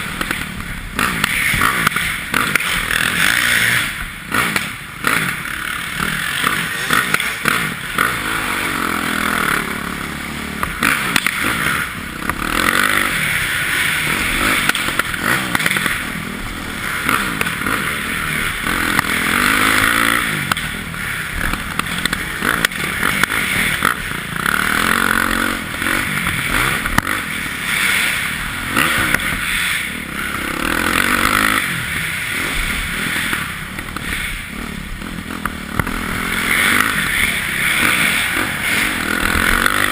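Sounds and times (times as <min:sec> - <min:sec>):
bike rattles and knocks: 0:00.0 - 0:39.9
dirt bike engine revving: 0:00.0 - 0:39.9.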